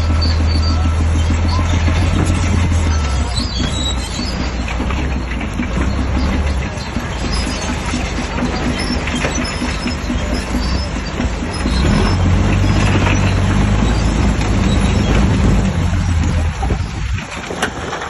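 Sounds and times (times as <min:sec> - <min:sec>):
bulldozer diesel engine: 0:00.0 - 0:18.0
tracks rattling: 0:00.0 - 0:18.0.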